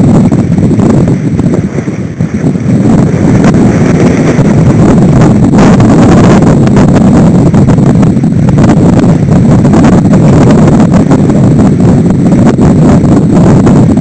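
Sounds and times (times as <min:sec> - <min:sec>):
water rushing past hull: 0:00.0 - 0:14.0
wind buffeting microphone: 0:00.0 - 0:14.0.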